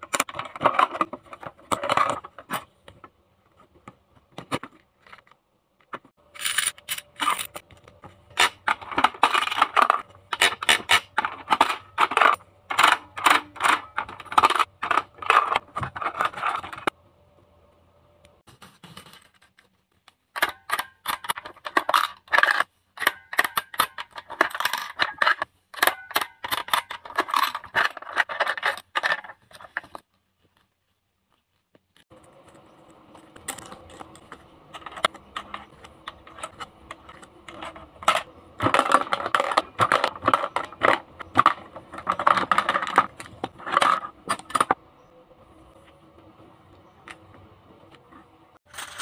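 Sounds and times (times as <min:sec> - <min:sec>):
plastic toys clicking and rattling: 0:00.0 - 0:17.0, 0:18.8 - 0:30.1, 0:32.0 - 0:44.8
faint steady hum: 0:00.0 - 0:49.0.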